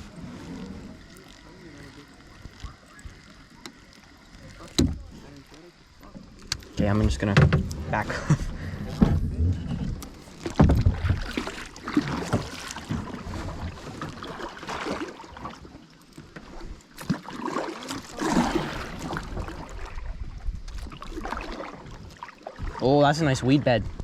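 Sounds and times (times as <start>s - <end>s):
paddle splashing in water: 0.0s - 24.0s
water sloshing against hull: 0.0s - 24.0s.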